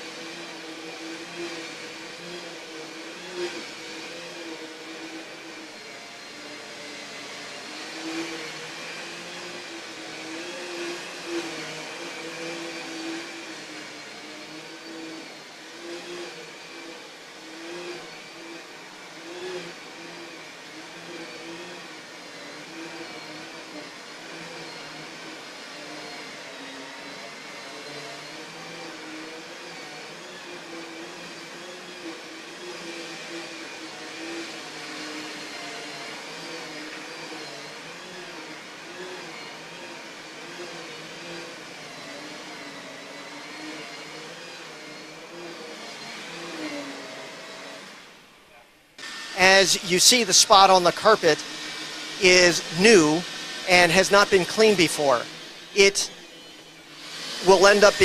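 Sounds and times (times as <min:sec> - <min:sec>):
cleaning machine motor running: 0:00.0 - 0:48.2, 0:49.0 - 0:58.0.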